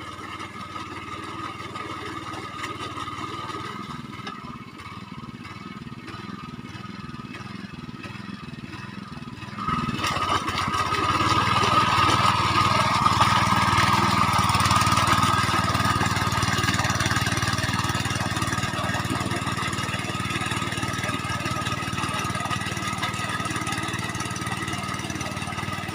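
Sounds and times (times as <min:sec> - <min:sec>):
tractor engine running: 0:00.0 - 0:25.9.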